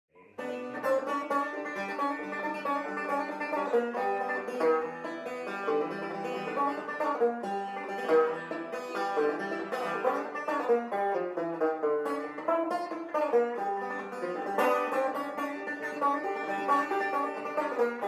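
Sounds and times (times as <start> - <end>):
banjo picking: 0.2 - 18.0.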